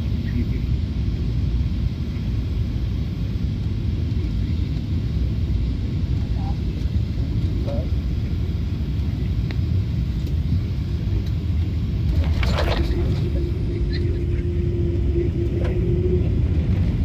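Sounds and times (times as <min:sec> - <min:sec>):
airplane low rumble: 0:00.0 - 0:17.0
steady hum: 0:00.0 - 0:17.0.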